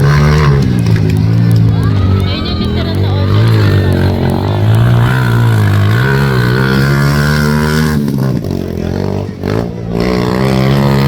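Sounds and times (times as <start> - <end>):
motorcycle engine under throttle: 0.0 - 11.0.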